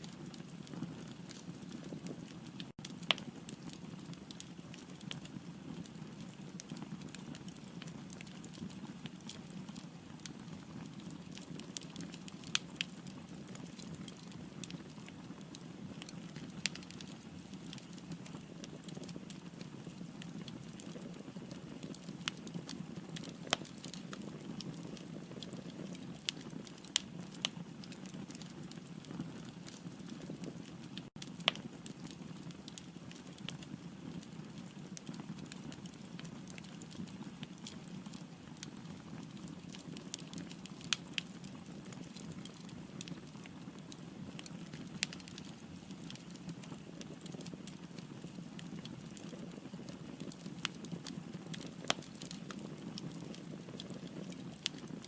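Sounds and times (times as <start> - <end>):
firewood popping and crackling: 0.0 - 55.0.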